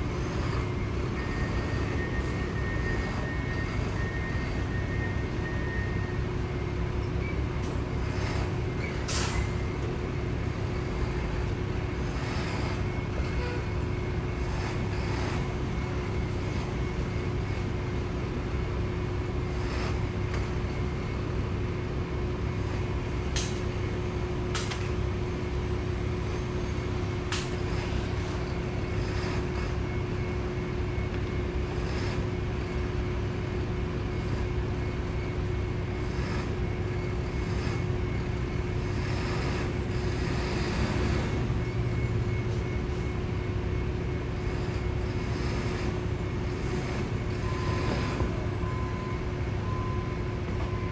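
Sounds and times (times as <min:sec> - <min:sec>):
engines and machinery hum: 0:00.0 - 0:50.9.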